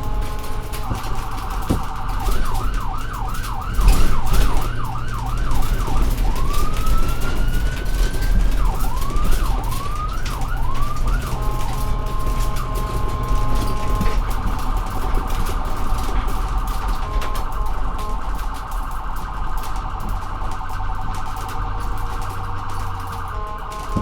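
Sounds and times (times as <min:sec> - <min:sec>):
emergency vehicle siren: 0:00.0 - 0:24.0
low engine rumble: 0:00.0 - 0:24.0.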